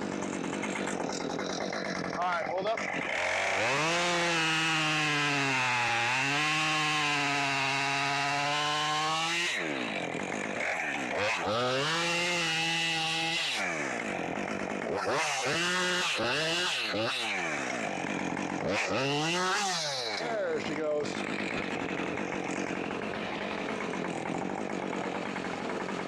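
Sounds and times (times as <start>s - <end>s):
chainsaw revving and cutting wood: 0.0s - 26.0s.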